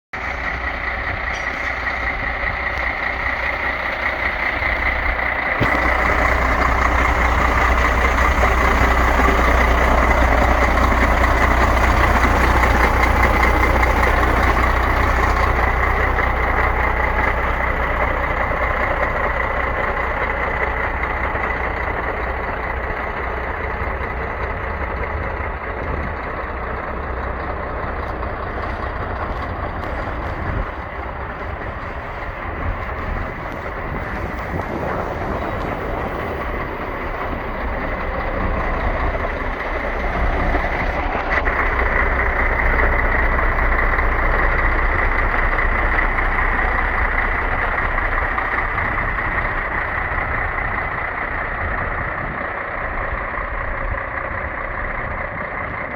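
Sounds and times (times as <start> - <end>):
diesel truck engine idling: 0.1 - 55.9.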